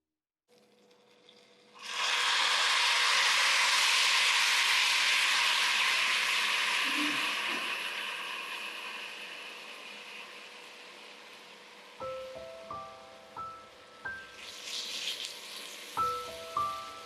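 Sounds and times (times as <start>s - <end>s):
sizzling in a hot pan: 0.6s - 17.0s.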